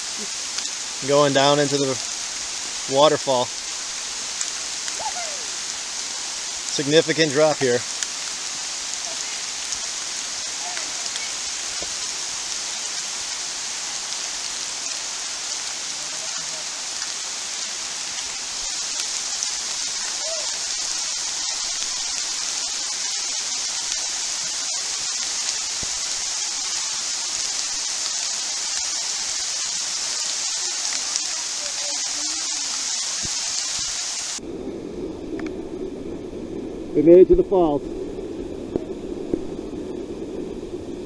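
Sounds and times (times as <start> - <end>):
heavy rain on foliage: 0.0 - 35.7.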